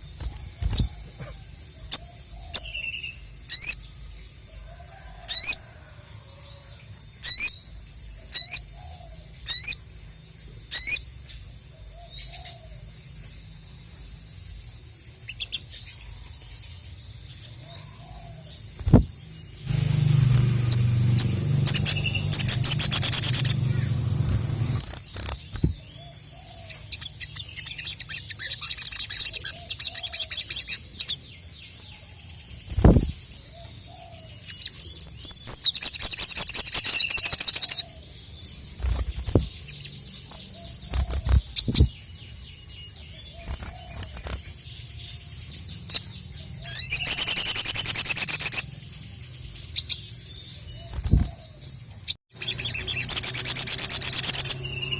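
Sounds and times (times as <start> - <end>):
bird singing rapid high chirps: 0.0 - 4.4, 7.2 - 11.3, 17.7 - 51.5, 52.1 - 54.9.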